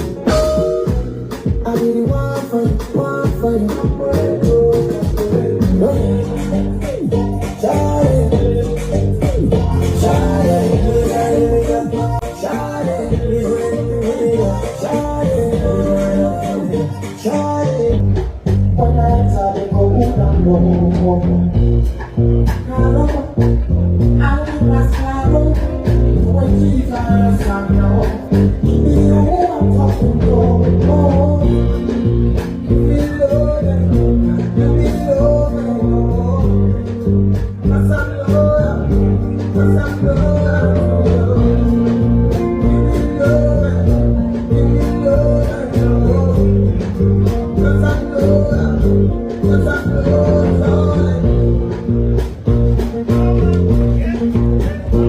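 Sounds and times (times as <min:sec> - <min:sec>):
guitar: 0:00.0 - 0:55.0
heavy bass line: 0:00.0 - 0:55.0
live band playing afrobeats: 0:00.0 - 0:55.0
steady drum beat: 0:00.0 - 0:55.0.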